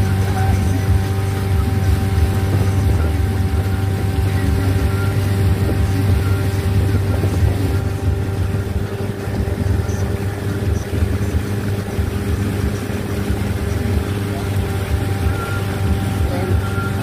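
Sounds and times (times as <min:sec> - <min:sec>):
boat engine humming: 0:00.0 - 0:17.0
water rushing from wake: 0:00.0 - 0:17.0.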